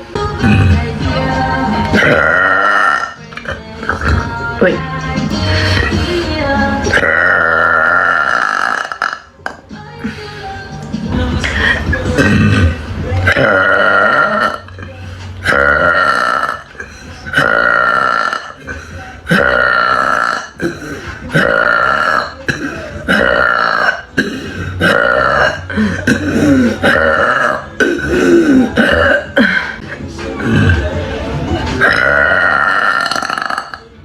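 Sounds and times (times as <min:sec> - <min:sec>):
woman burping loudly: 0:00.3 - 0:01.0, 0:01.8 - 0:04.8, 0:06.9 - 0:09.6, 0:11.5 - 0:29.8, 0:30.4 - 0:30.9, 0:31.8 - 0:34.0.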